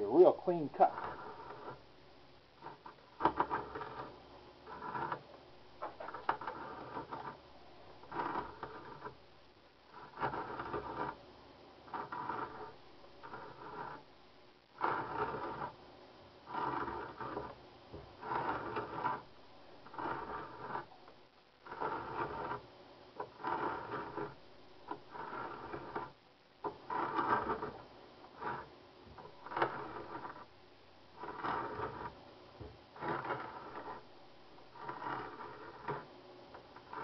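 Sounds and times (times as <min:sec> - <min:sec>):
auger bit scraping wood: 0:00.0 - 0:11.2, 0:11.8 - 0:14.1, 0:14.7 - 0:15.8, 0:16.4 - 0:37.0.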